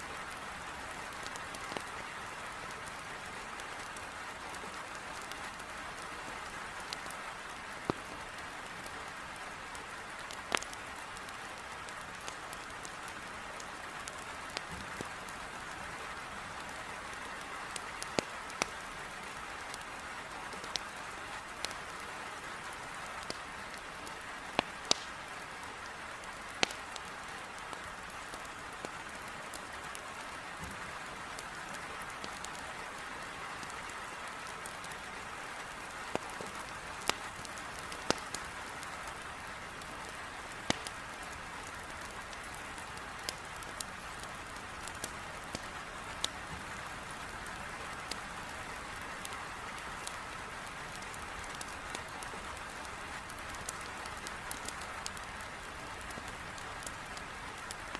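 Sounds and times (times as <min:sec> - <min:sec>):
rain hissing on window glass: 0:00.0 - 0:57.9
firewood crackling: 0:00.1 - 0:57.9.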